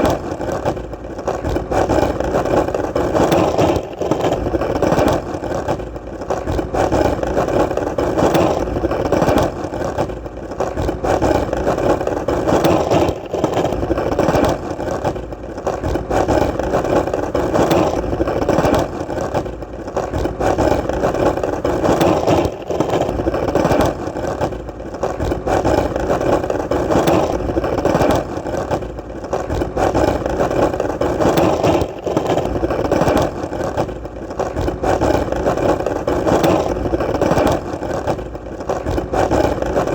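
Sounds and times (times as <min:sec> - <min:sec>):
skateboard wheels rolling: 0:00.0 - 0:39.9.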